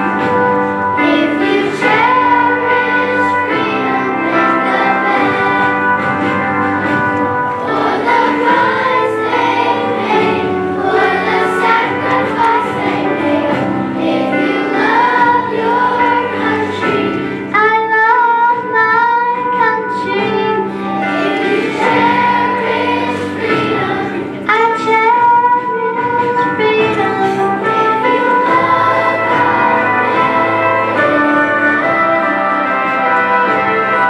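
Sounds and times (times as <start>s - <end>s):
children's choir singing: 0.0s - 34.0s
instrumental accompaniment: 0.0s - 34.0s.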